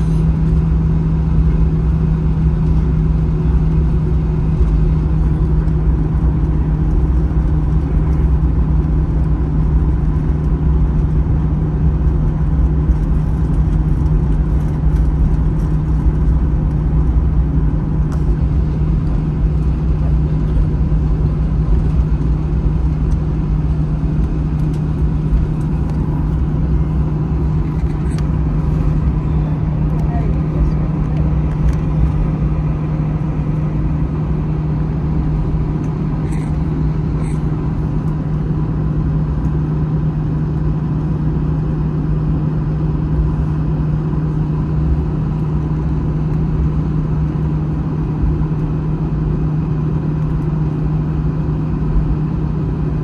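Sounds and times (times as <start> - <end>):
aircraft cabin drone: 0.0 - 53.0
jet engines humming at idle: 0.0 - 53.0.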